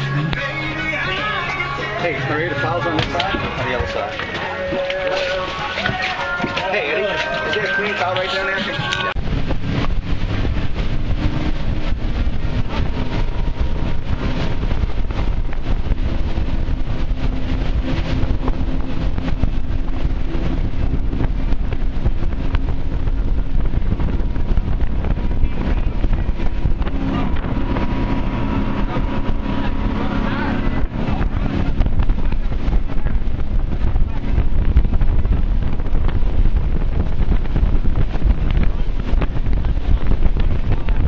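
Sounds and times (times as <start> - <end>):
boat engine drone: 0.0 - 41.0
water rushing off hull: 0.0 - 41.0
wind buffeting microphone: 0.0 - 41.0.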